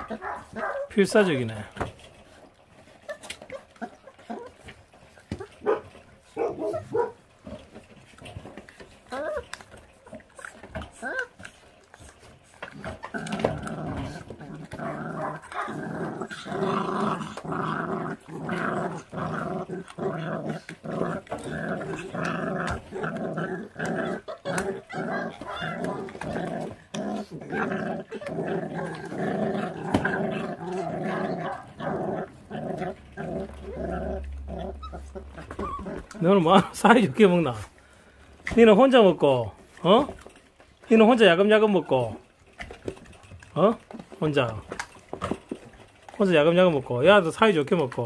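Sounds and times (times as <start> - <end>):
puppies growling: 0.0 - 48.0.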